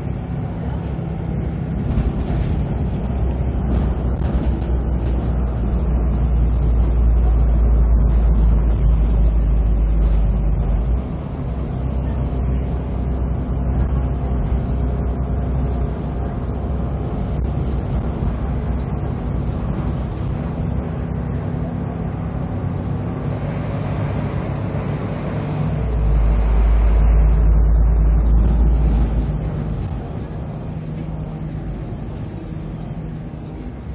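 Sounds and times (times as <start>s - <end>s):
bus diesel engine rumbling: 0.0s - 33.9s.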